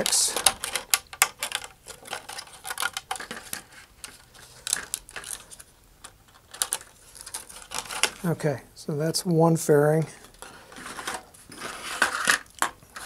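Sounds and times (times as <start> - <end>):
plastic sheet crackling and clicking: 0.0 - 8.3, 10.2 - 13.0.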